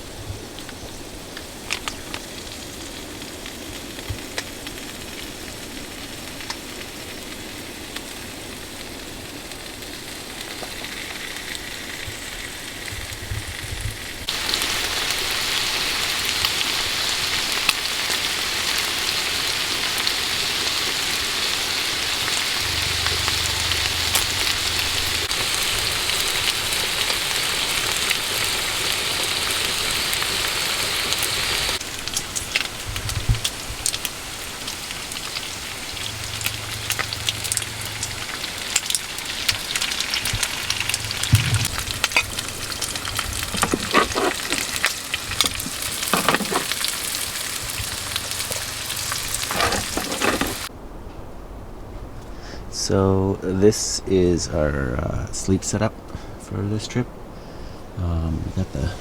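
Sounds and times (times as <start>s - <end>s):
food sizzling in a pan: 0.3s - 50.7s.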